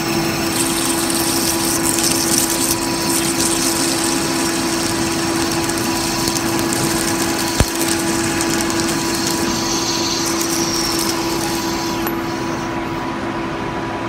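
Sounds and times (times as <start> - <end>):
hiss of metal cutting: 0.0 - 13.0
lathe motor hum: 0.0 - 13.0.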